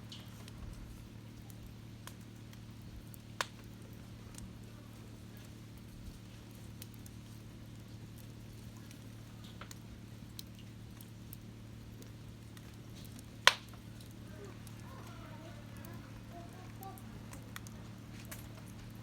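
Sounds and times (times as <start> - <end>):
low steady hum: 0.0 - 19.0
wood fire crackling and popping: 0.0 - 19.0.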